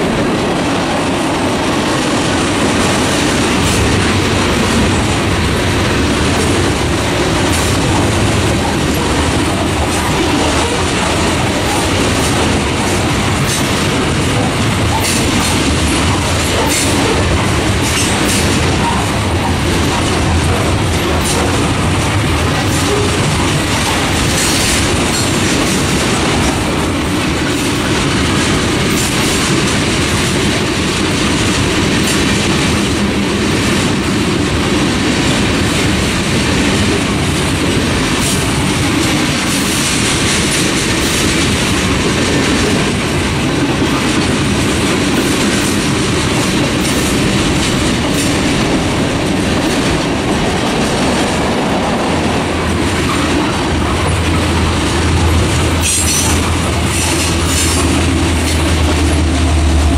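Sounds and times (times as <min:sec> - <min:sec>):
train wheels rumbling on rail: 0:00.0 - 0:59.9
wheels clicking over rail joints: 0:01.6 - 0:59.9.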